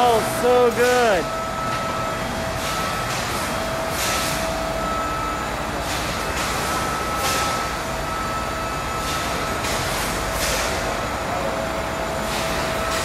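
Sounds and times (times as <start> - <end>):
machinery drone with whine: 0.0 - 13.0.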